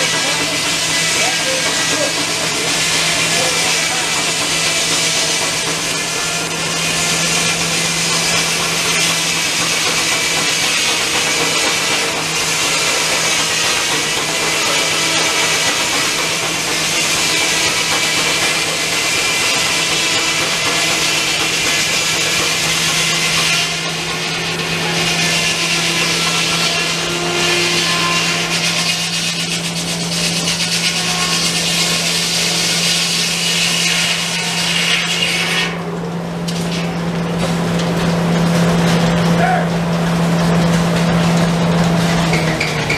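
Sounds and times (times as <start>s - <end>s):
spinning blade hum: 0.0s - 35.8s
circular saw cutting log: 0.0s - 36.0s.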